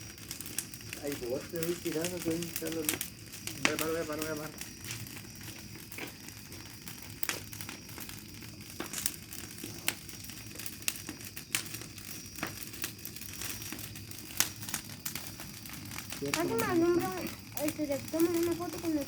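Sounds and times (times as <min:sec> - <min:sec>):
campfire crackling and popping: 0:00.0 - 0:19.0
low hiss of fire: 0:00.0 - 0:19.0.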